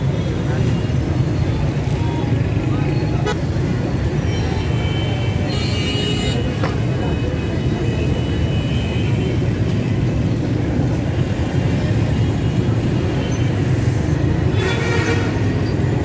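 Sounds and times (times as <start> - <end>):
busy street rumble: 0.0 - 16.0.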